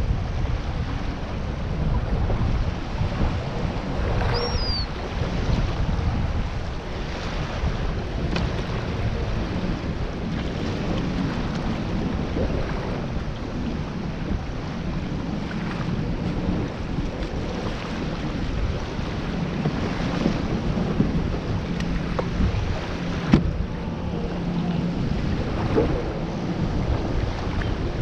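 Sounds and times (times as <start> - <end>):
small waves washing: 0.0 - 28.0
wind buffeting microphone: 0.0 - 28.0.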